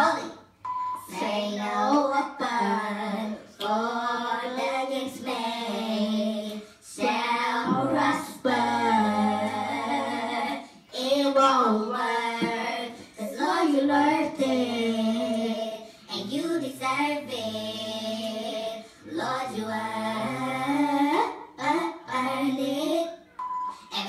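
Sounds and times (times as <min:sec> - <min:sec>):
girl singing gospel: 0:00.0 - 0:24.0.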